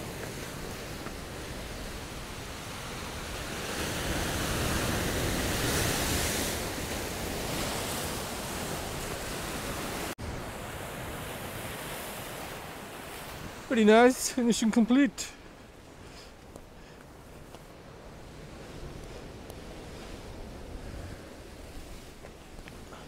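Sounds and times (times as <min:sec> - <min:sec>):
waves washing on rocky shore: 0:00.0 - 0:23.0.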